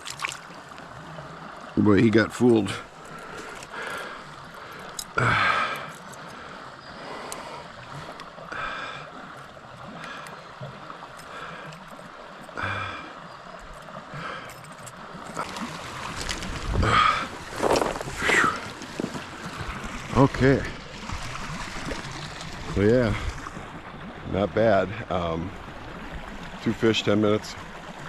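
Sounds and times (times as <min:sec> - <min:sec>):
creek water running: 0:00.0 - 0:28.0.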